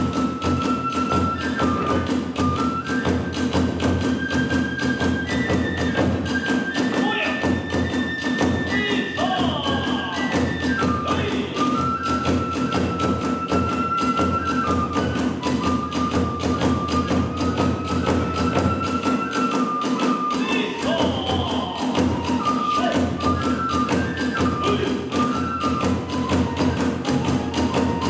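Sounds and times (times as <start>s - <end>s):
bamboo flute melody: 0.0s - 28.0s.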